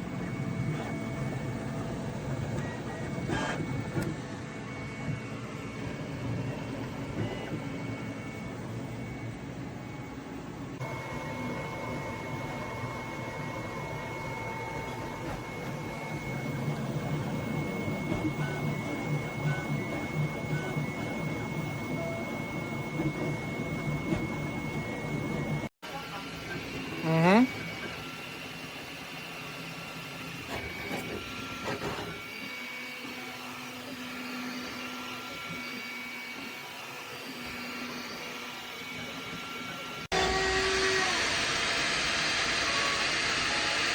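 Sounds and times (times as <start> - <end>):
printer mechanical hum: 0.0 - 43.9.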